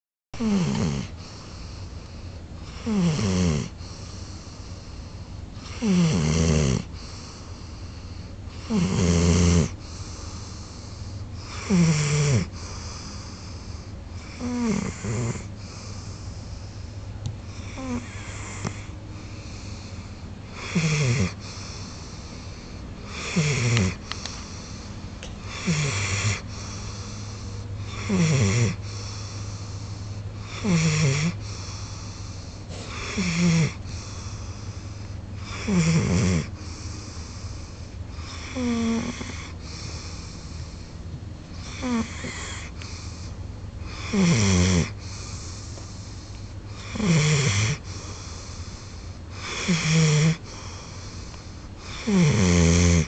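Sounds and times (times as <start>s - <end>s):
dog snoring loudly: 0.4s - 40.9s, 41.5s - 53.0s.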